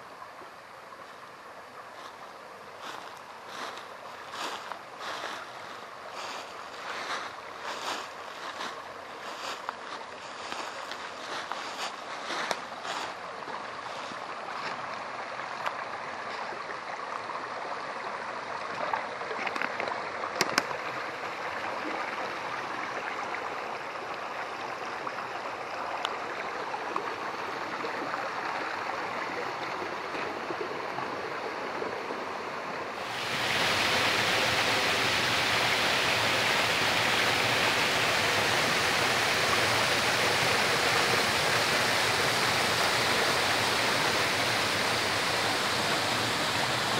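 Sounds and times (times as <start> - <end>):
mountain stream over rocks: 0.0 - 46.9.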